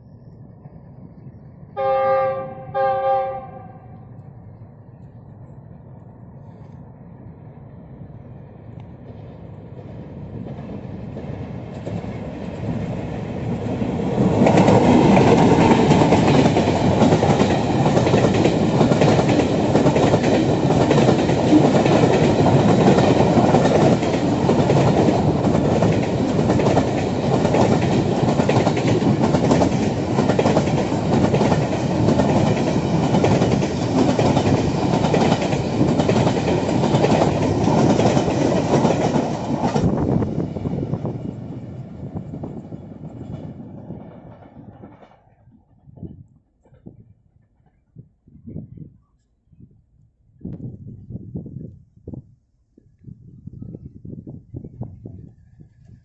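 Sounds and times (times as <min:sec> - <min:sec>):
diesel freight train passing: 0:00.0 - 0:45.6.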